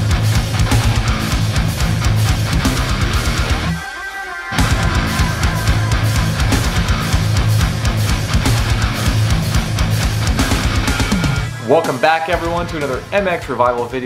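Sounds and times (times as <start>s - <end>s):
driving drum beat: 0.0s - 3.8s, 4.6s - 14.0s
electric guitar: 0.0s - 11.7s
heavy metal music: 0.0s - 14.0s.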